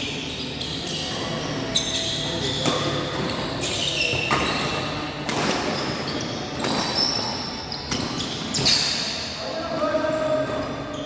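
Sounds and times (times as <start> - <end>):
sneakers squeaking on floor: 0.0 - 9.4, 10.0 - 11.0.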